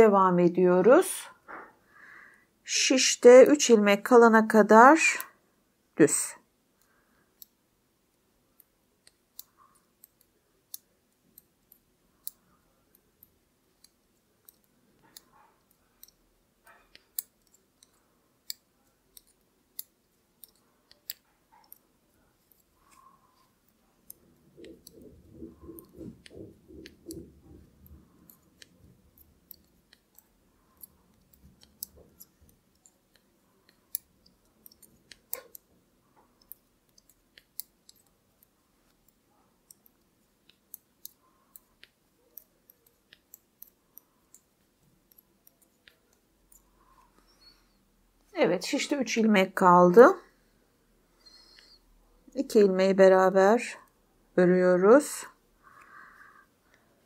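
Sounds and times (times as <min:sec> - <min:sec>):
knitting needles clicking: 0:02.2 - 0:05.4, 0:06.1 - 0:50.4, 0:51.2 - 0:57.0.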